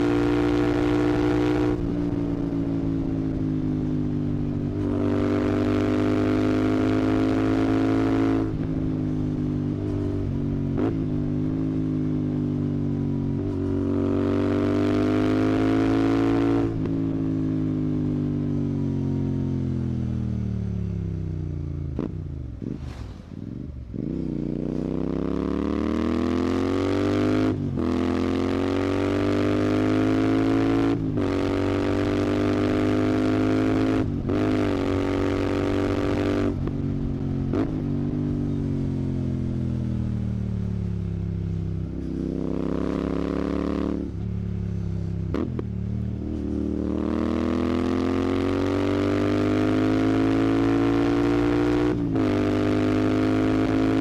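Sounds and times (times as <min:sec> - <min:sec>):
motorcycle engine under throttle: 0:00.0 - 0:54.0.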